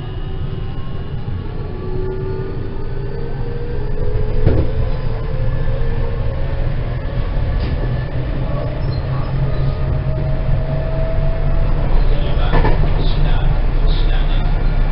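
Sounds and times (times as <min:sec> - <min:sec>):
electric train motor whine: 0:00.0 - 0:14.9
wheels rumbling on rail: 0:00.0 - 0:14.9.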